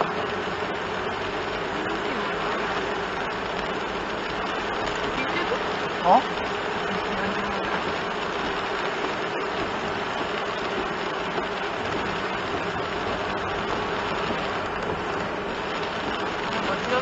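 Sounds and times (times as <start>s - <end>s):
engine drone and tyre noise: 0.0s - 17.0s.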